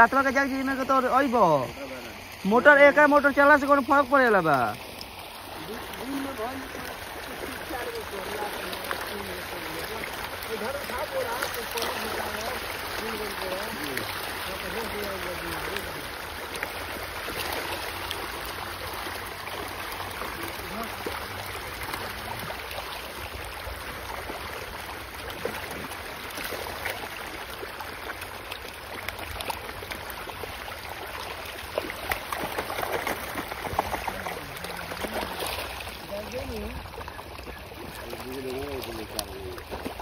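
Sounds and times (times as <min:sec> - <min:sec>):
fish splashing at water surface: 0:03.2 - 0:40.0.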